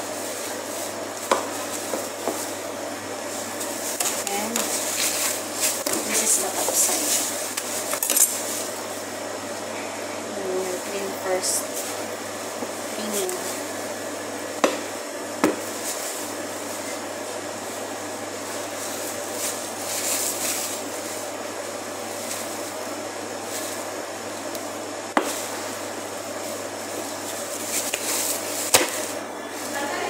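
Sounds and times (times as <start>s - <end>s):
shop background hum: 0.0s - 30.0s.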